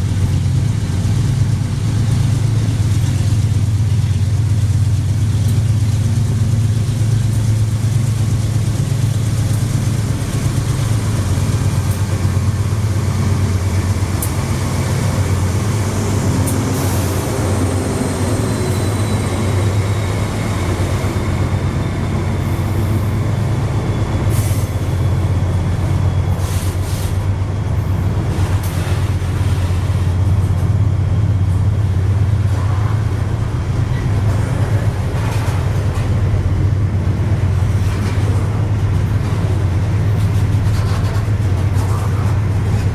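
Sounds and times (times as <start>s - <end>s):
locomotive low drone: 0.0s - 42.9s.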